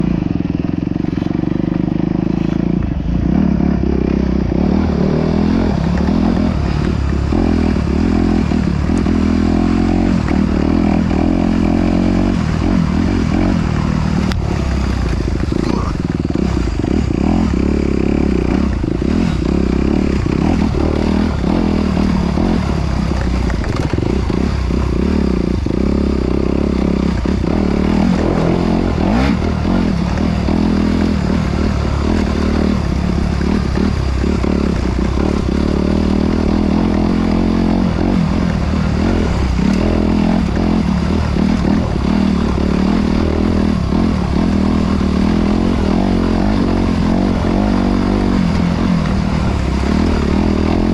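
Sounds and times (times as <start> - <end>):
off-road vehicle engine running: 0.0 - 50.9.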